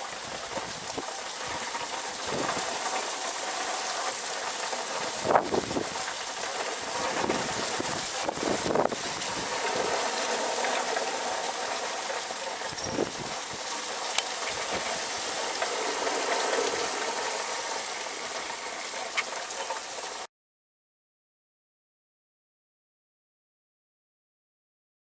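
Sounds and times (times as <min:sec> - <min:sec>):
rain: 0:00.0 - 0:20.3
wind: 0:00.0 - 0:20.3.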